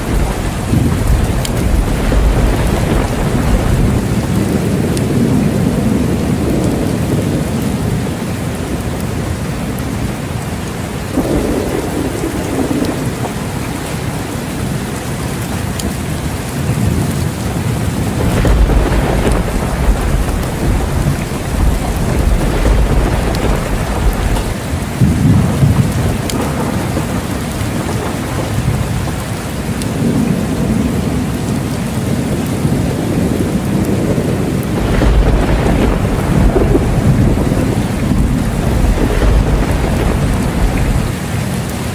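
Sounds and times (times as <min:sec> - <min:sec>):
rolling thunder: 0:00.0 - 0:09.0, 0:11.1 - 0:14.2, 0:16.7 - 0:41.9
heavy rain: 0:00.0 - 0:41.9.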